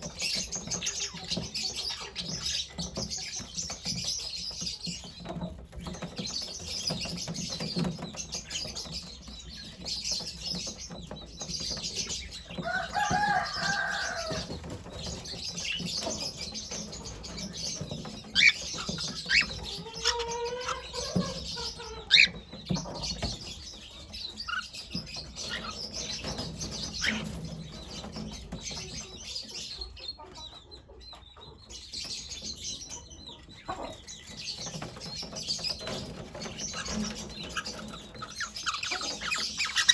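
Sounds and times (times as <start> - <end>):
cockatiel chirping and calling: 0.1 - 39.9.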